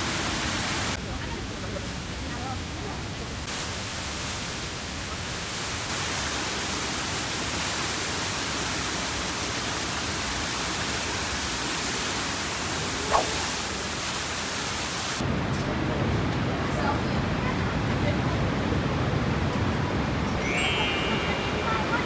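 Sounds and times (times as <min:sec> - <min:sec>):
waterfall roaring in a tunnel: 0:00.0 - 0:20.2.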